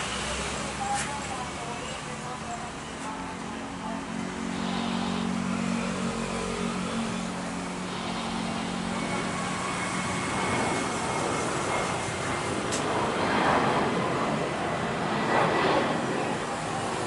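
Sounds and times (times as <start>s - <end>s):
jet engine roar: 0.0s - 17.0s
low hum: 3.2s - 17.0s.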